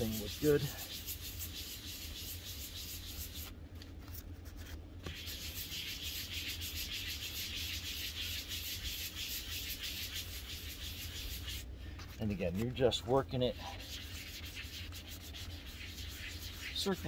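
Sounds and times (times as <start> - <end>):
sanding block scraping plastic: 0.0 - 3.5, 5.0 - 12.7, 13.6 - 17.0.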